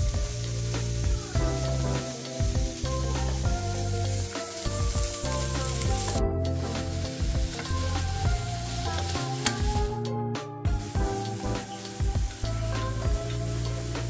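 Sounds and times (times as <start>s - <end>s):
vegetables sizzling in a frying pan: 0.0s - 10.0s, 10.8s - 14.0s
background music: 0.0s - 14.0s.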